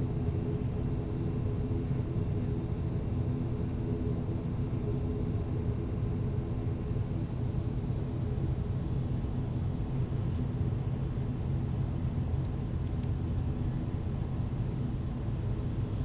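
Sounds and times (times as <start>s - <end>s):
turboprop engines rumbling: 0.0s - 16.0s.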